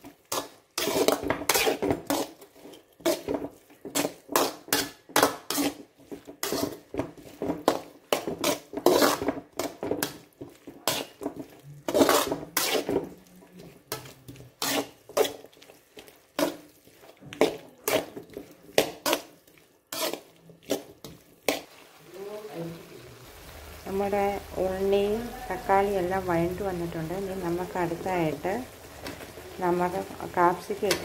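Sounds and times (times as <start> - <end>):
spoon scraping a pan: 0.0 - 22.0, 25.0 - 31.0.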